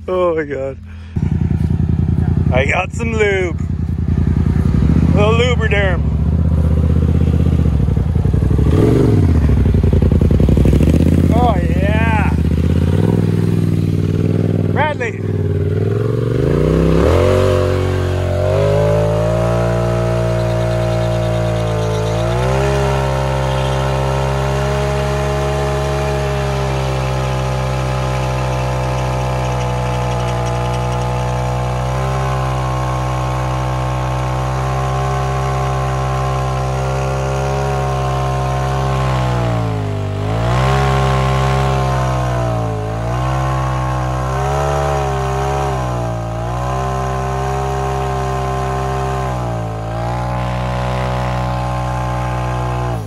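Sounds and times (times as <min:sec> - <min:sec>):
tires spinning: 0:00.0 - 0:53.0
engine revving high: 0:01.0 - 0:53.0.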